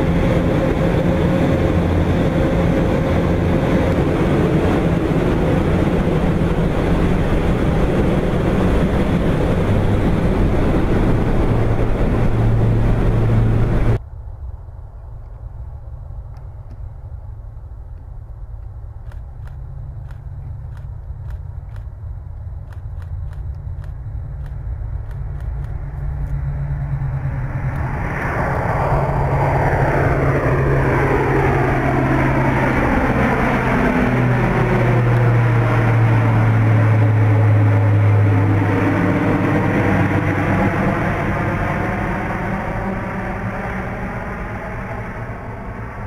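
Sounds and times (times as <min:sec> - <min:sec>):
aircraft roaring overhead: 0:00.0 - 0:46.0
propeller aircraft drone: 0:00.0 - 0:46.0.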